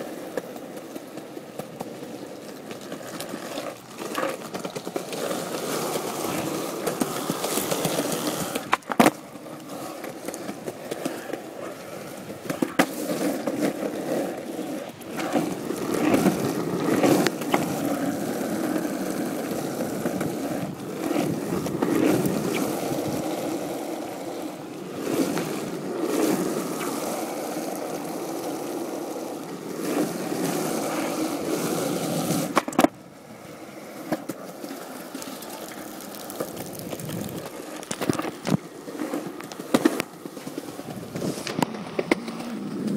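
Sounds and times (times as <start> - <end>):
skateboard clacks: 0.0 - 42.9
skateboard wheels rolling on pavement: 0.0 - 42.9.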